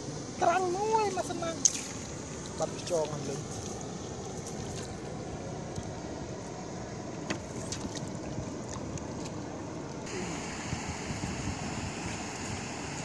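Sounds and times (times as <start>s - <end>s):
water swishing and lapping: 0.0s - 13.0s.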